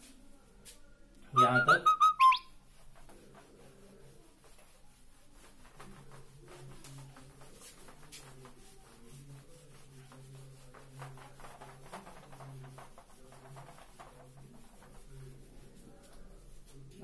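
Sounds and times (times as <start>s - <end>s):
duster wiping whiteboard: 1.4s - 17.0s.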